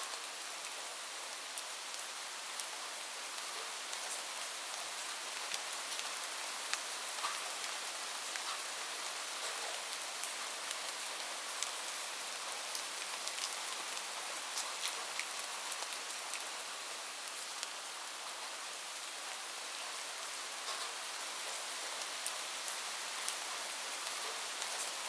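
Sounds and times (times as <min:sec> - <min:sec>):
light rain falling: 0:00.0 - 0:25.0
raindrops ticking on surface: 0:01.5 - 0:18.6, 0:20.6 - 0:25.0.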